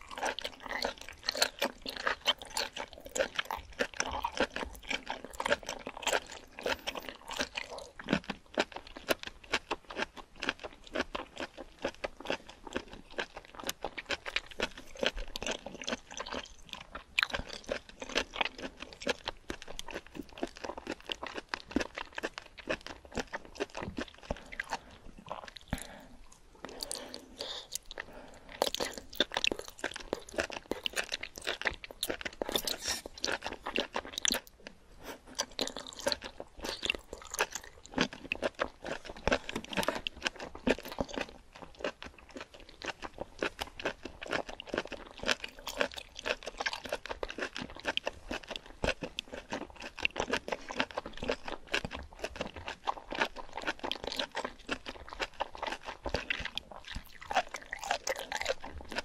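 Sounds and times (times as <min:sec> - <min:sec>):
mouth chewing with clicks and smacks: 0:00.0 - 0:59.0.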